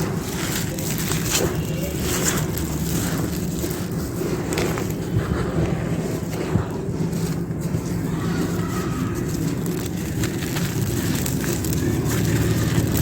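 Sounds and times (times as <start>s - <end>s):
clay pot pieces crunching: 0.0s - 13.0s
steady low rumble: 0.0s - 13.0s.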